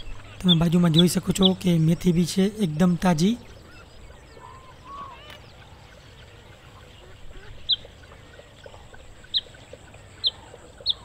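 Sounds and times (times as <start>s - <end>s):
faint outdoor background: 0.0s - 11.0s
small bird chirping: 0.0s - 11.0s.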